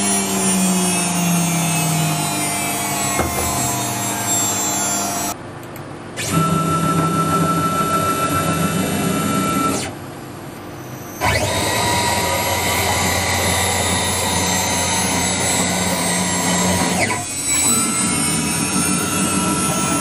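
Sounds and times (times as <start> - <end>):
stepper motors whining: 0.0 - 5.4, 6.2 - 20.0.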